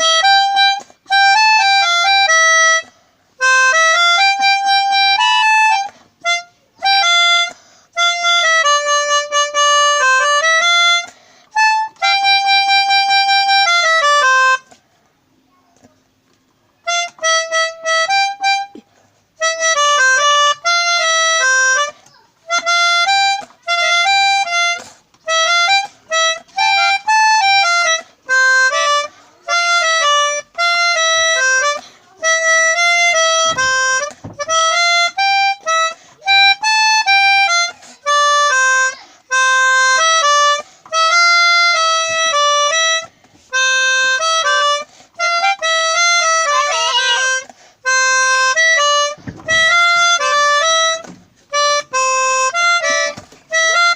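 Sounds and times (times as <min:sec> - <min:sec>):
melodica playing melody: 0:00.0 - 0:15.3, 0:16.7 - 0:53.9.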